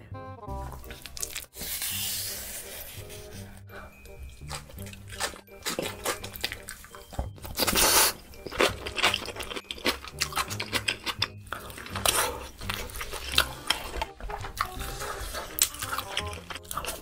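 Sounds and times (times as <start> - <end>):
crunchy wet chewing: 0.6 - 3.4, 4.0 - 17.0.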